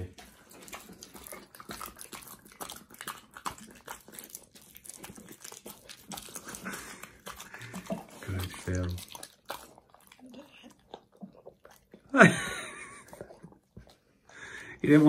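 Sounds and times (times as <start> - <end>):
dog chewing meat: 0.0 - 15.0.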